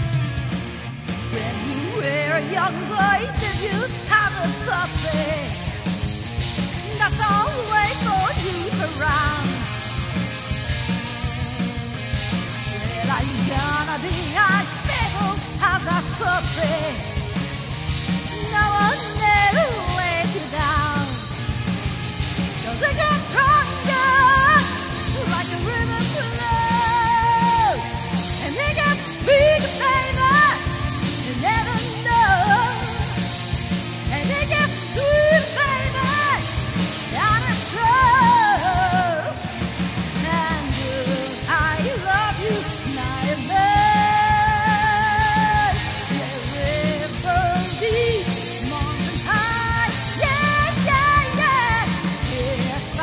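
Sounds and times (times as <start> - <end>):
rock band with drums: 0.0 - 53.0
woman belting a rock song: 0.0 - 53.0.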